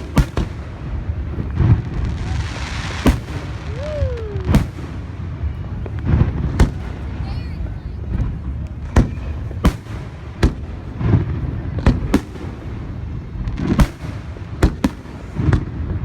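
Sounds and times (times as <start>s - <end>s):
fireworks bangs: 0.0s - 16.0s
low rumble of fireworks: 0.0s - 16.0s.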